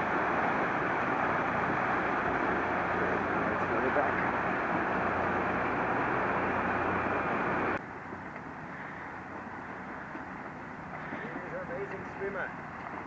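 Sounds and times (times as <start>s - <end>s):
traffic noise from bridge: 0.0s - 13.0s.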